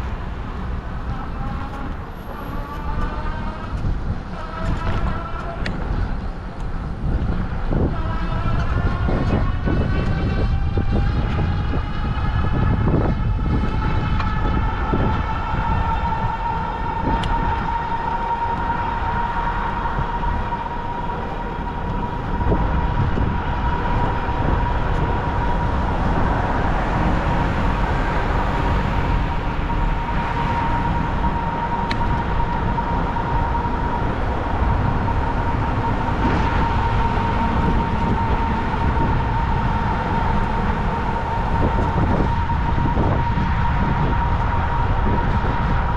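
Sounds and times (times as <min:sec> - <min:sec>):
wind rumble on microphone: 0:00.0 - 0:45.9.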